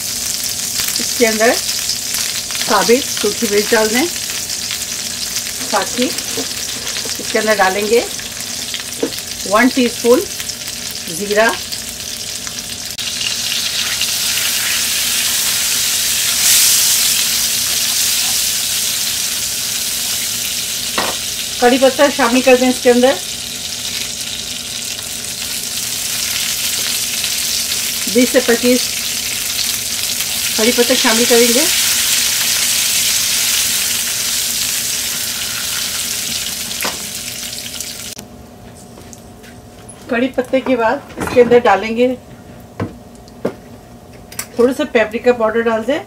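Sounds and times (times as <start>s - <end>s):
spices sizzling in hot oil: 0.0s - 38.2s.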